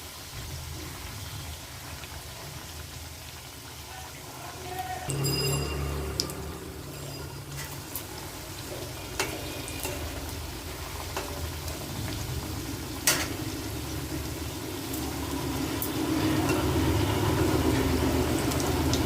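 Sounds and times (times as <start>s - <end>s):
oil sizzling: 0.0s - 19.0s.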